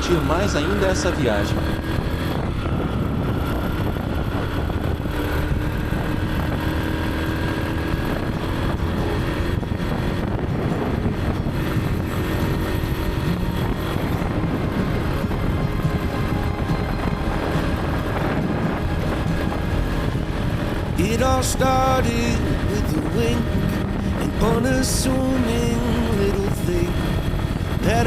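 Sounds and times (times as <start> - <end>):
motorcycle engine cruising: 0.0 - 28.0
wind rushing over microphone: 0.0 - 28.0.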